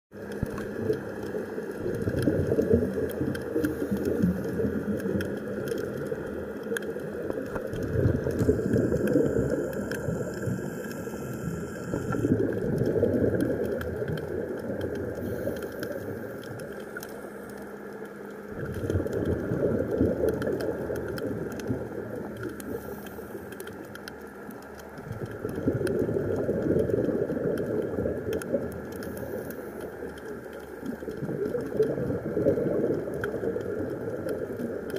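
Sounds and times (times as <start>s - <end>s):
faint crackle: 0.1s - 34.9s
underwater exhaled bubbles: 0.1s - 34.9s.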